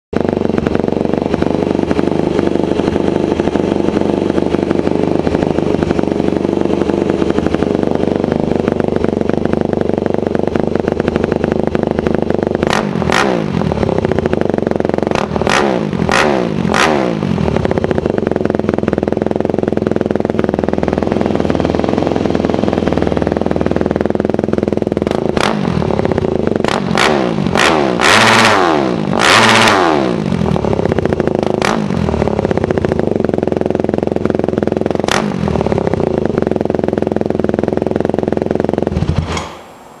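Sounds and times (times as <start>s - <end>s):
dirt bike engine idling: 0.1s - 40.0s
dirt bike engine revving: 0.2s - 19.0s, 20.8s - 32.8s, 34.9s - 37.0s.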